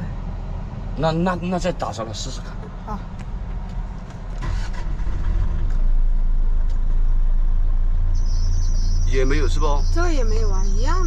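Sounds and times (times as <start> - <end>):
truck engine starting and idling: 0.0 - 11.0.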